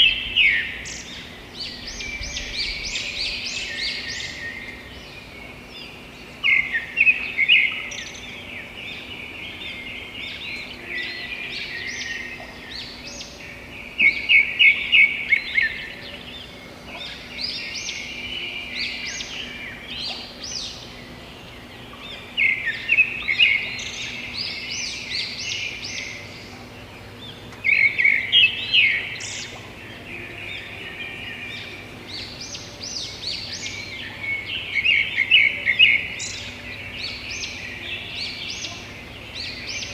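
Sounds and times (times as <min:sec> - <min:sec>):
background birds chirping: 0:00.0 - 0:39.9.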